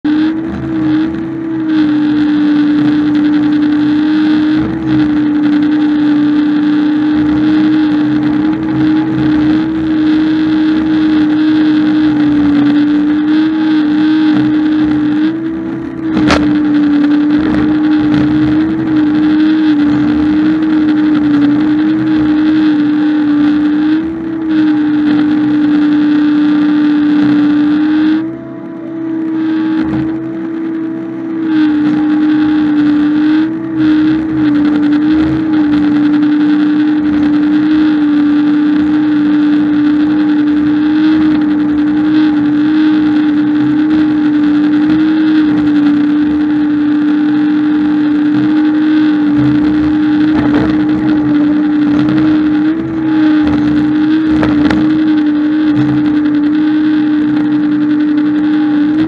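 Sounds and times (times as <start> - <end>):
farm machine engine running: 0.0 - 59.0.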